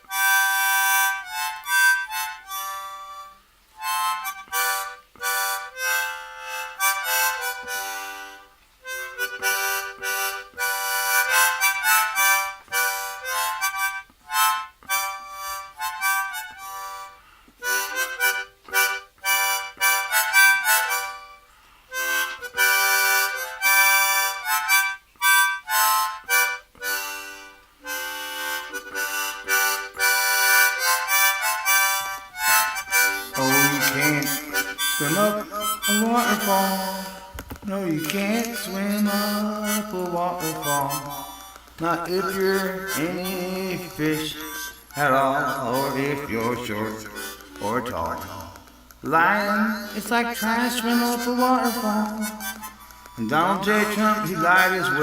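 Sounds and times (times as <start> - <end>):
harmonica playing: 0.0 - 55.0.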